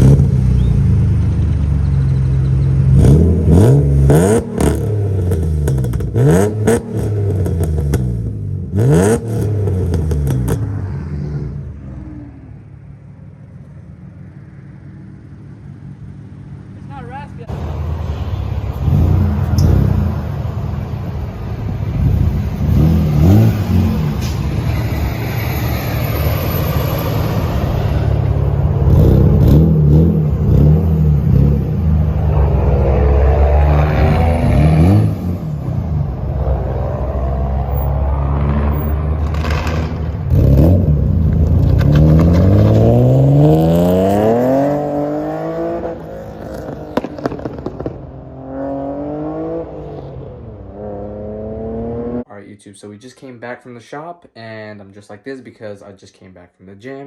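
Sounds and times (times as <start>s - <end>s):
car engine revving: 0.0s - 12.7s, 17.4s - 52.3s.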